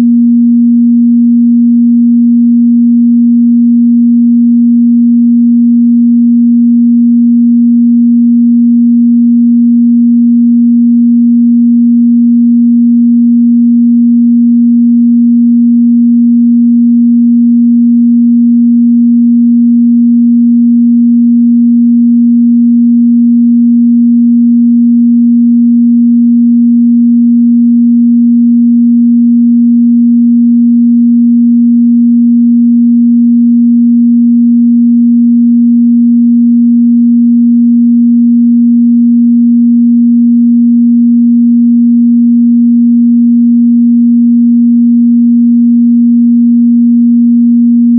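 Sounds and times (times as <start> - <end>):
sine-wave test tone: 0.0 - 47.9.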